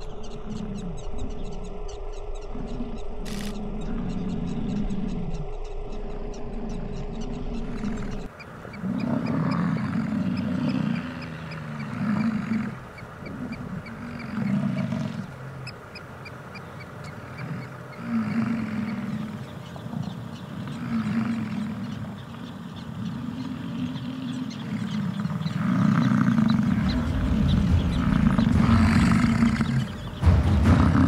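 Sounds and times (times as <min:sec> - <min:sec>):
bison bellowing: 0:02.4 - 0:15.9, 0:17.1 - 0:31.0.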